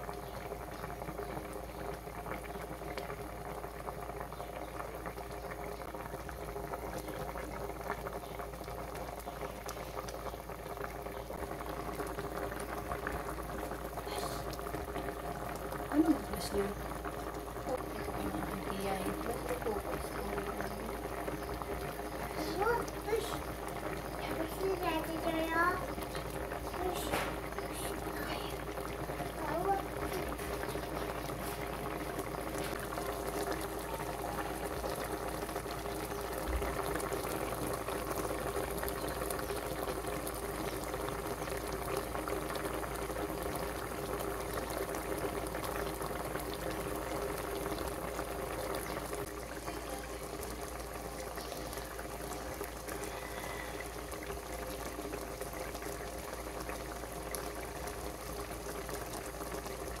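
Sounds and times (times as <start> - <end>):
curry bubbling in a pot: 0.0 - 60.0.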